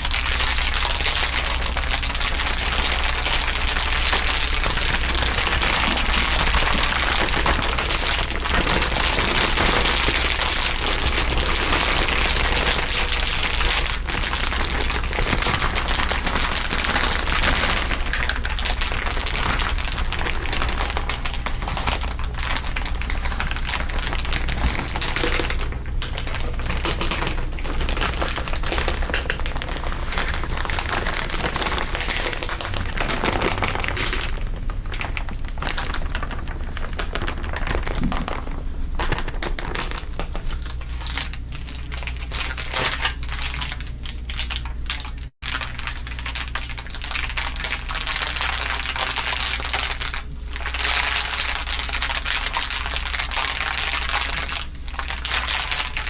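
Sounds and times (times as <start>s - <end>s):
crinkling material crackle: 0.0s - 56.0s
steady low hum: 0.0s - 56.0s.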